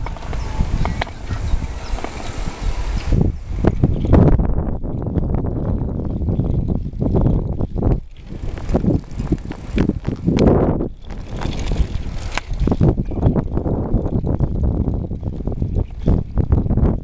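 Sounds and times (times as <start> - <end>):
bike rattles and knocks: 0.0 - 2.4, 3.6 - 17.0
wind buffeting microphone: 0.0 - 17.0.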